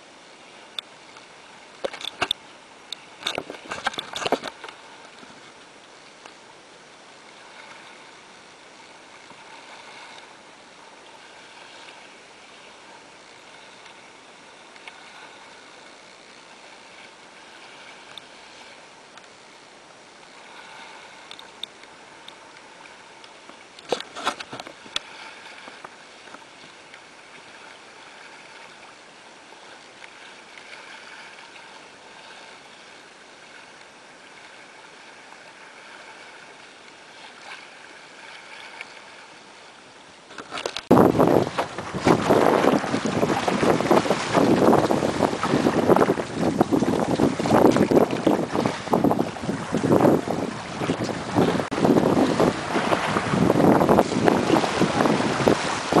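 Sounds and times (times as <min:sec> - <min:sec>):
water splashing along a hull: 0:00.0 - 0:56.0.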